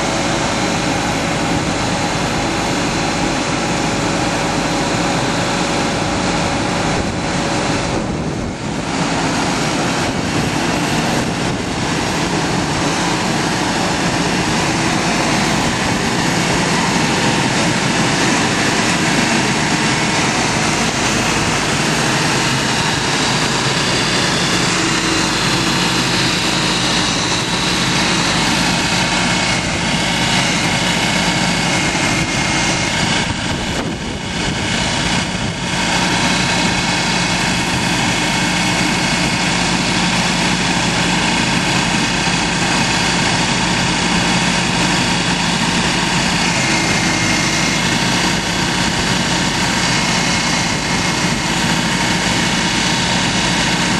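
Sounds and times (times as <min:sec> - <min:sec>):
loud rushing spray noise: 0:00.0 - 0:53.9
truck engine running: 0:00.0 - 0:53.9.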